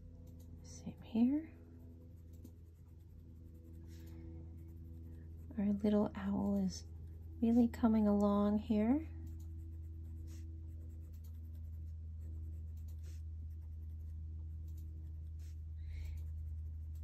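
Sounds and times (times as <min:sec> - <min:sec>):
steady low hum: 0:00.0 - 0:17.0
pencil scratching on paper: 0:00.6 - 0:08.0, 0:08.6 - 0:17.0.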